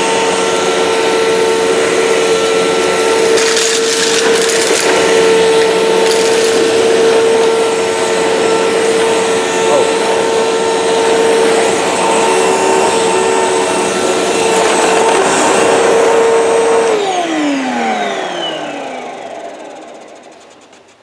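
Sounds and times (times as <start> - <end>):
vacuum cleaner motor whine: 0.0 - 21.0
vacuum motor spinning down: 0.0 - 21.0.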